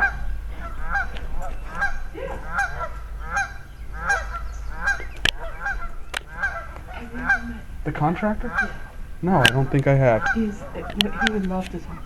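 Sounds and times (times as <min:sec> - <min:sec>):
waterfowl calling: 0:00.0 - 0:12.0.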